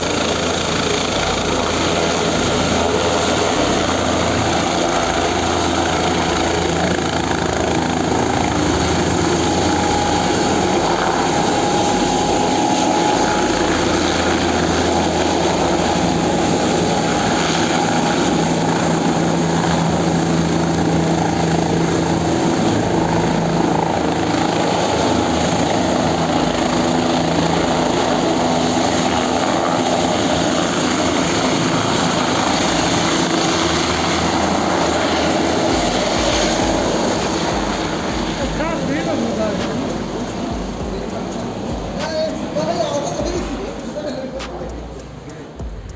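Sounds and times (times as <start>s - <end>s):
helicopter rotor and turbine: 0.0s - 45.9s.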